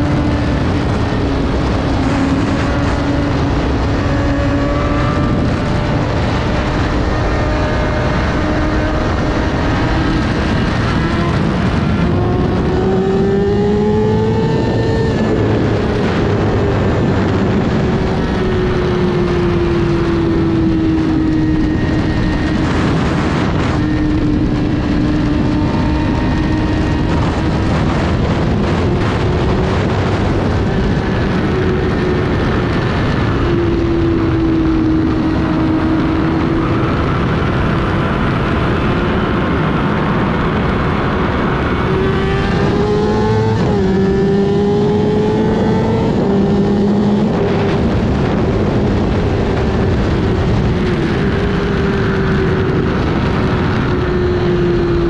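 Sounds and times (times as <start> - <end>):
motorcycle engine revving: 0.0 - 55.0
wind rush on microphone: 0.0 - 55.0.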